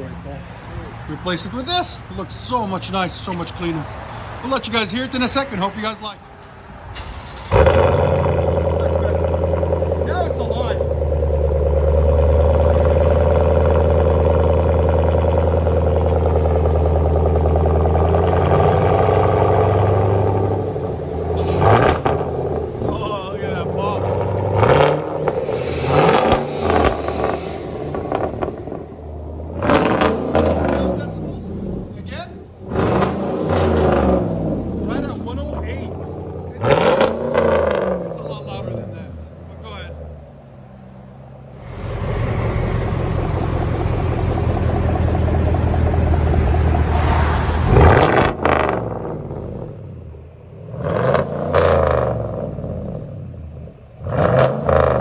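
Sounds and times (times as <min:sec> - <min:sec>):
truck engine revving and idling: 0:00.0 - 0:55.0.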